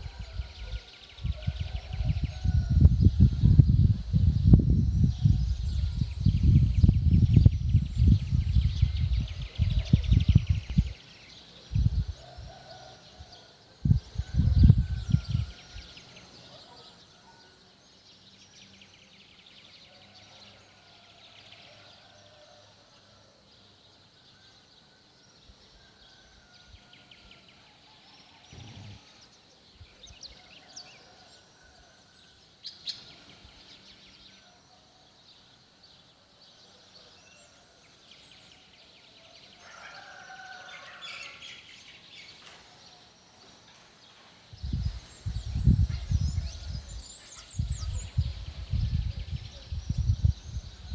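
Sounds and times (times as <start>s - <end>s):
birds singing: 0.0s - 50.9s.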